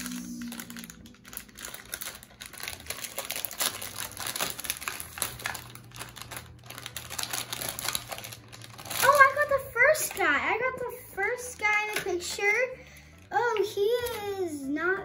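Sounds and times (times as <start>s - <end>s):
foil and plastic crinkling: 0.0s - 14.6s.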